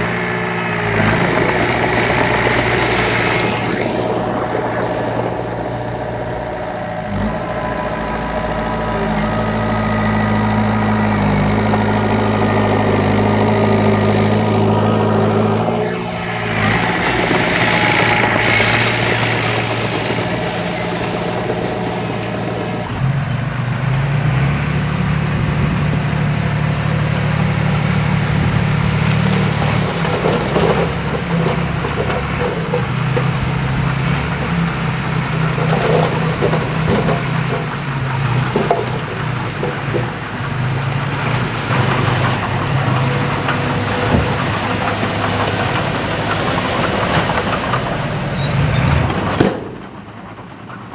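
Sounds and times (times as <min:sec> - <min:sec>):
construction machine diesel engine: 0:00.0 - 0:50.9.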